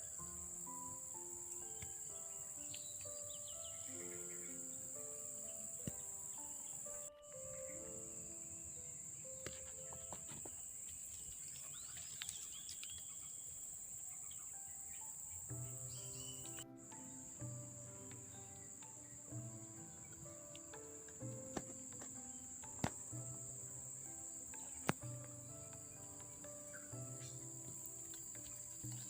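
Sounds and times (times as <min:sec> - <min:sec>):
background music with held notes: 0:00.0 - 0:29.0
crickets droning: 0:00.0 - 0:29.0.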